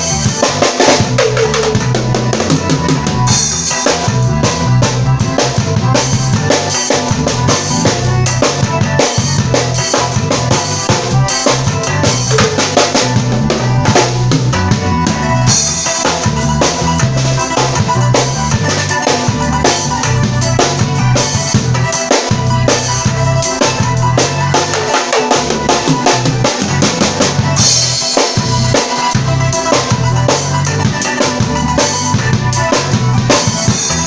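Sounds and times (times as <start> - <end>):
bass line: 0.0 - 34.0
drum kit playing a groove: 0.0 - 34.0.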